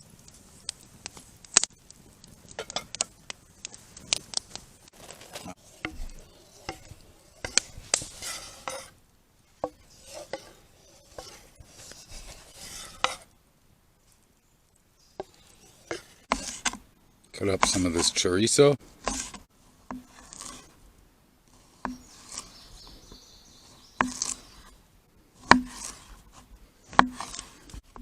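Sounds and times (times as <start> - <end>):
scraping and stirring: 2.5 - 13.3, 15.1 - 20.8, 21.5 - 24.8, 25.4 - 28.0.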